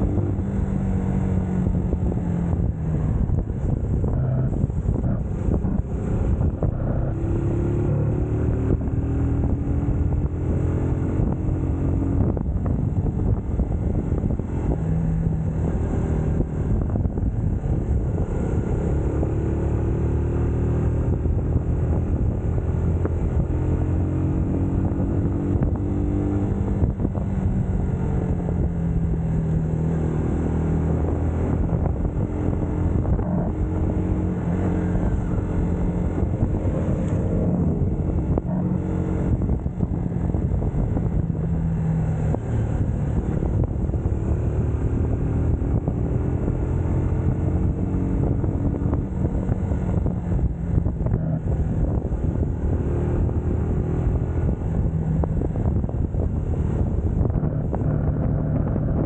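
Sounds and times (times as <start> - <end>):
motorcycle engine shifting gears: 0.0 - 59.0.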